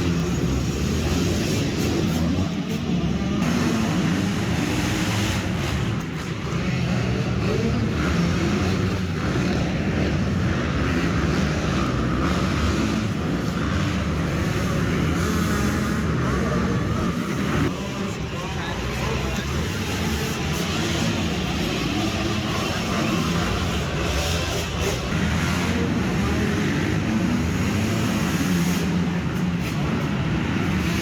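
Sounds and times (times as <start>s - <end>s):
motorcycle engines running: 0.0s - 31.0s.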